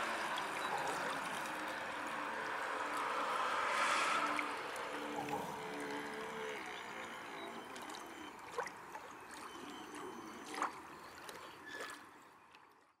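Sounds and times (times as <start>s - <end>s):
water lapping and rippling: 0.0s - 13.0s.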